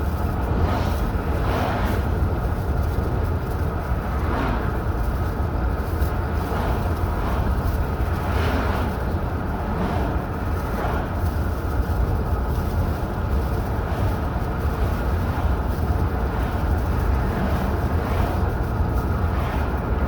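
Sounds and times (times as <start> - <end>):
car engine and tyres rumbling: 0.0 - 20.0
road hiss: 0.0 - 20.0.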